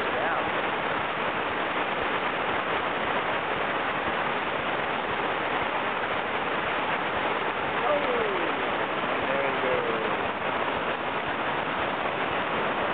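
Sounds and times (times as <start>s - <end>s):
whitewater rapids roaring: 0.0s - 12.9s.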